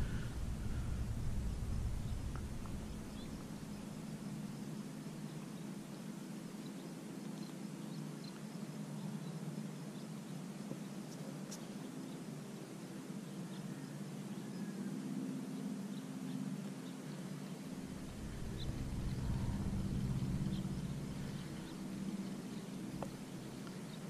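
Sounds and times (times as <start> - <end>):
steady low hum: 0.0 - 6.9, 7.9 - 24.0.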